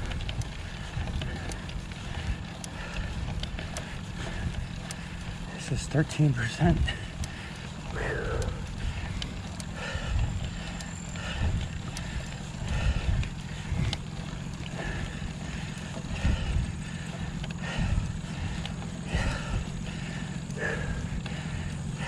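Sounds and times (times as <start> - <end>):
wind rumble on microphone: 0.0 - 5.6, 6.4 - 22.0
person breathing hard: 0.0 - 22.0.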